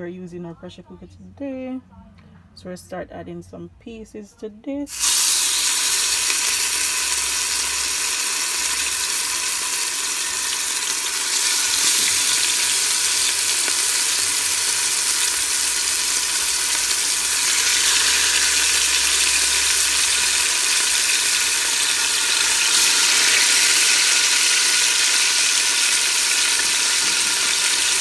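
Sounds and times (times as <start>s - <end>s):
meat sizzling in hot oil: 4.9s - 28.0s.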